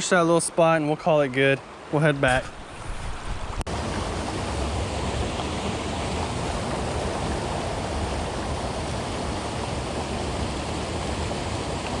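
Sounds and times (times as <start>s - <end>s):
creek rushing over rapids: 0.0s - 12.0s.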